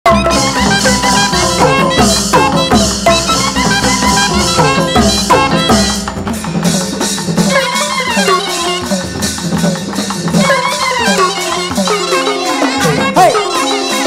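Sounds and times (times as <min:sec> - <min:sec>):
steady high percussion: 0:00.1 - 0:14.0
tuned drums with bending pitch: 0:00.1 - 0:14.0.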